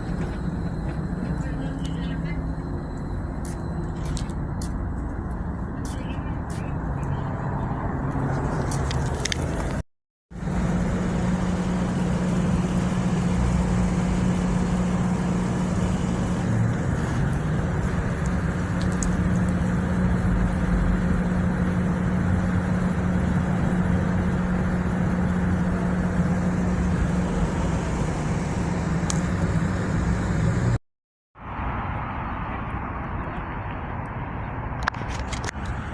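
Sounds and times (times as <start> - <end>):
constant low hum: 0.0 - 9.8, 10.4 - 30.8
car driving road noise: 0.0 - 30.8, 31.4 - 35.9.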